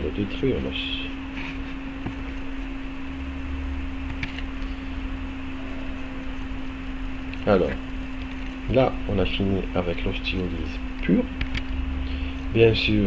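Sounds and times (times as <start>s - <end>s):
low electrical hum with hiss: 0.0s - 13.0s.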